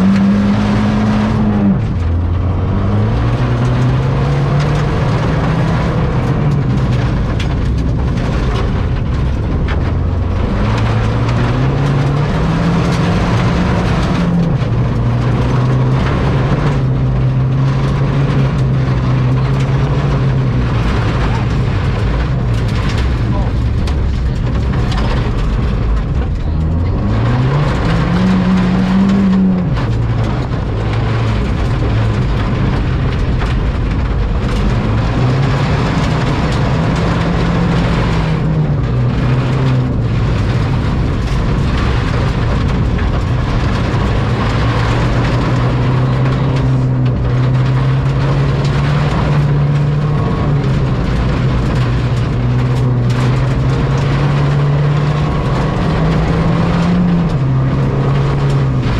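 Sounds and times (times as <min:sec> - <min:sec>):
gravel road noise: 0:00.0 - 0:58.9
turbocharged car engine revving: 0:00.0 - 0:58.9.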